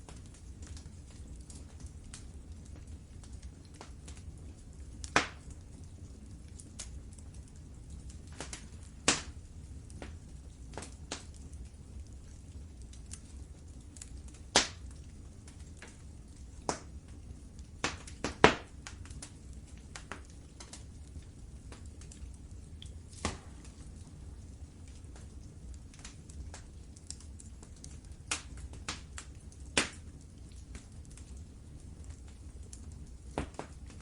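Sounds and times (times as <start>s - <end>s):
sharp pops of fire: 0.0s - 4.2s, 5.0s - 5.7s, 6.4s - 31.4s, 32.0s - 34.0s
wood fire crackling: 0.0s - 34.0s.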